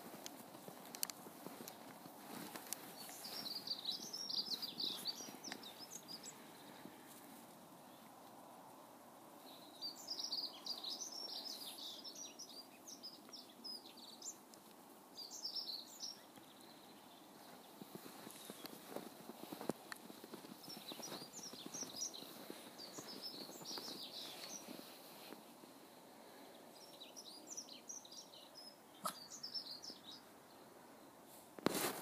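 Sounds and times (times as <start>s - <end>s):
small birds chirping: 0.0s - 8.3s, 9.4s - 31.3s
faint outdoor background noise: 0.0s - 32.0s.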